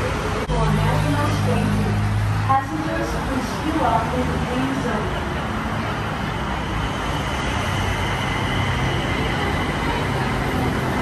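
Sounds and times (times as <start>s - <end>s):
constant noise wash: 0.0s - 11.0s
engine drone: 0.0s - 11.0s.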